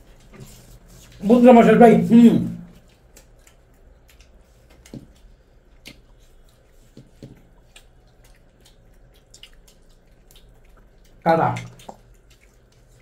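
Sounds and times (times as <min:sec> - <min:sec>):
hands squishing food on plates: 0:00.0 - 0:13.0.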